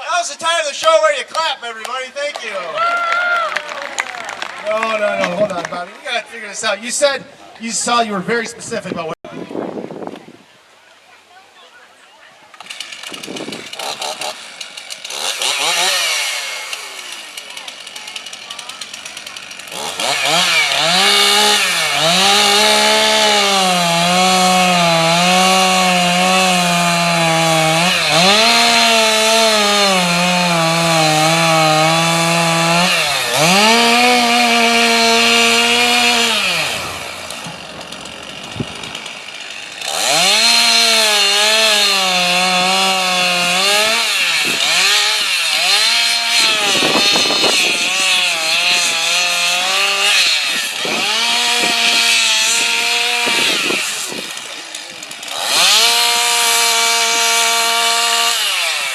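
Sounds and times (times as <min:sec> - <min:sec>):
chainsaw cutting wood: 0:03.6 - 0:05.8, 0:12.6 - 0:58.9.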